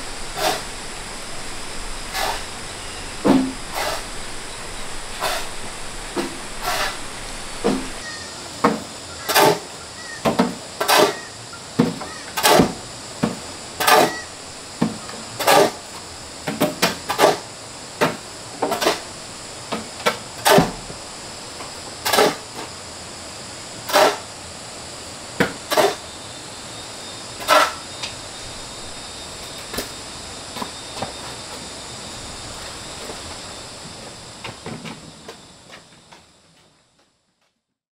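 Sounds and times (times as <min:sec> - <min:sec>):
broom sweeping dirt floor: 0:00.0 - 0:09.7, 0:10.3 - 0:22.8, 0:23.7 - 0:24.4, 0:25.4 - 0:26.1, 0:27.4 - 0:36.7.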